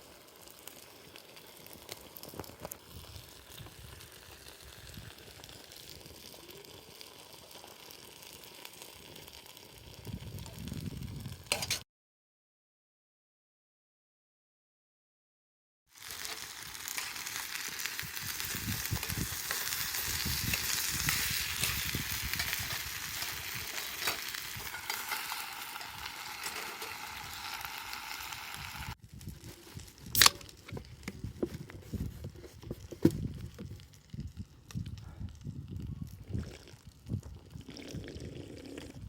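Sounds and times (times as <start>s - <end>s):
campfire sizzling: 0.0s - 11.8s, 15.9s - 39.0s.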